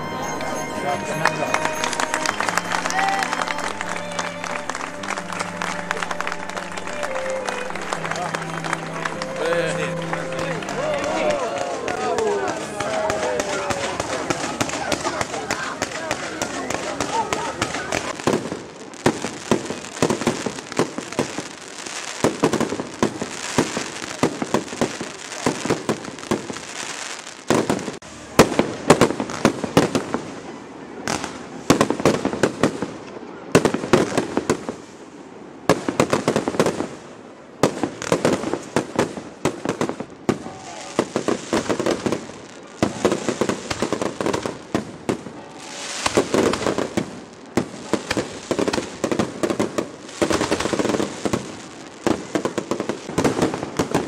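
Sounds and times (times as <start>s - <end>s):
fireworks bursting with bangs: 0.0s - 54.0s
fireworks crackling: 0.0s - 54.0s.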